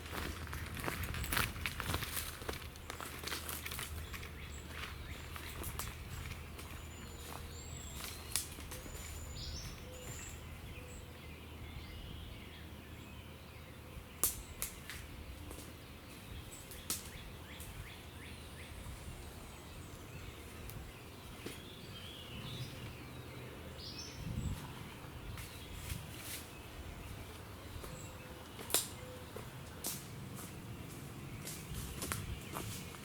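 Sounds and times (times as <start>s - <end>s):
birds chirping: 0.0s - 33.0s
low background noise: 0.0s - 33.0s.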